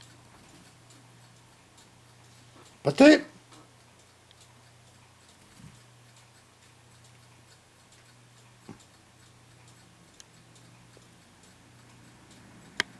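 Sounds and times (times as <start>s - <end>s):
light ticking: 0.0s - 2.8s, 3.4s - 12.9s.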